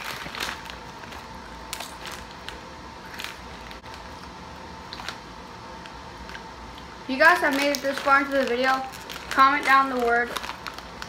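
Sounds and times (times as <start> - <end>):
faint steady hum: 0.0 - 11.0
plastic snack bag crinkling: 0.0 - 11.0.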